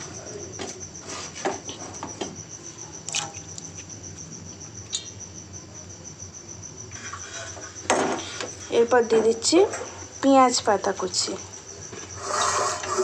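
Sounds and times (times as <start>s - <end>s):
cricket trilling: 0.0s - 13.0s.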